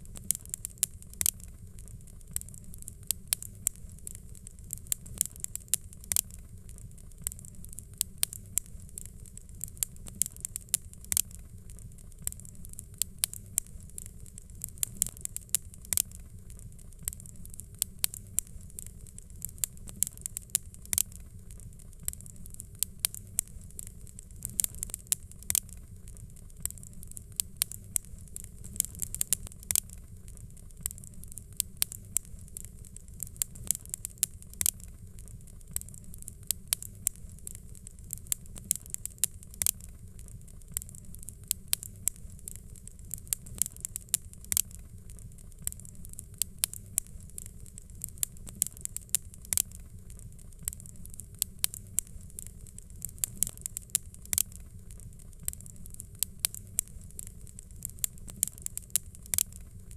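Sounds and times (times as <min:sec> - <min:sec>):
fire crackling and popping: 0:00.0 - 0:59.9
low steady rumble: 0:00.0 - 0:59.9.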